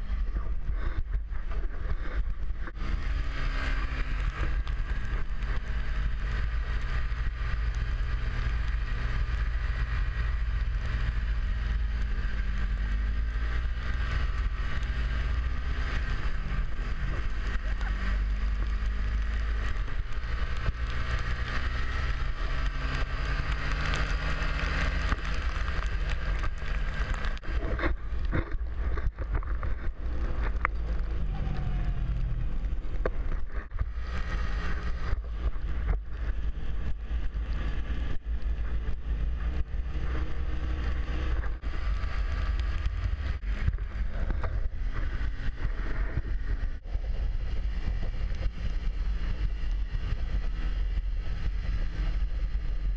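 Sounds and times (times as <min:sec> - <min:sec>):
snowmobile engine running: 0:00.0 - 0:52.9.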